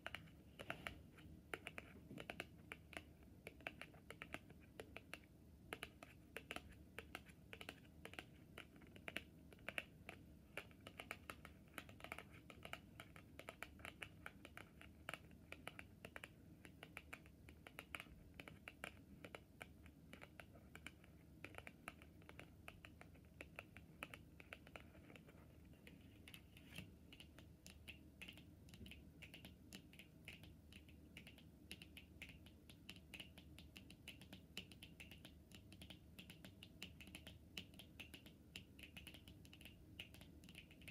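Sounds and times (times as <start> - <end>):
fingernails tapping on cards: 0.0 - 40.9.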